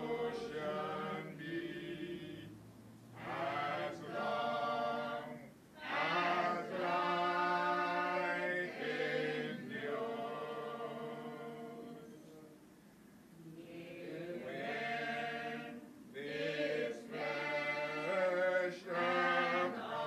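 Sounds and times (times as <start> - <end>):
choir singing in harmony: 0.0 - 2.6, 3.2 - 12.5, 13.6 - 20.0.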